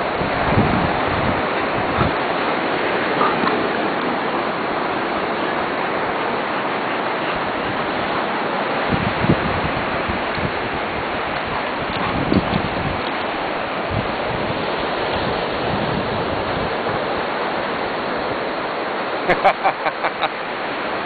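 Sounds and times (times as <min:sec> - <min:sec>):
ocean surf: 0:00.0 - 0:21.0
wind: 0:00.0 - 0:21.0.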